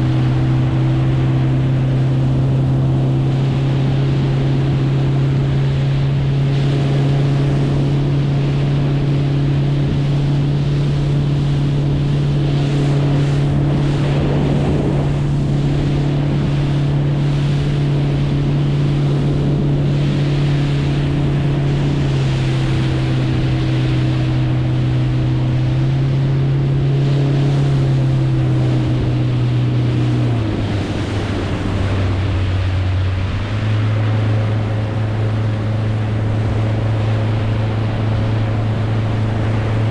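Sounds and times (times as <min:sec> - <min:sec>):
boat motor running: 0:00.0 - 0:39.9
wind: 0:00.0 - 0:39.9.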